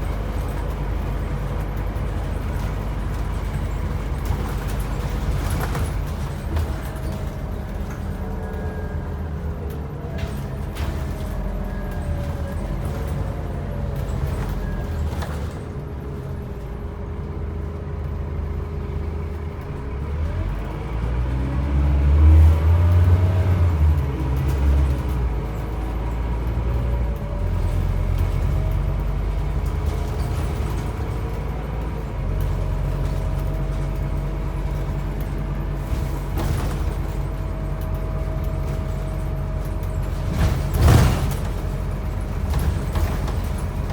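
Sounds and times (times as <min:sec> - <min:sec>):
bus engine rumble: 0:00.0 - 0:43.9.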